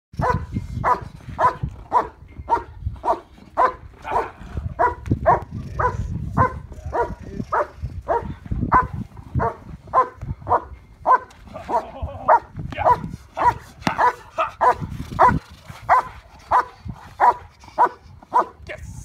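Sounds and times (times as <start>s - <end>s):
dog barking rhythmically: 0.2s - 18.6s.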